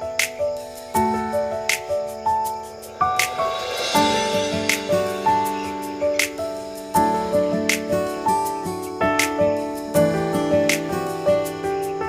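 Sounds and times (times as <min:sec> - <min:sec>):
light tapping beat: 0:00.0 - 0:12.0.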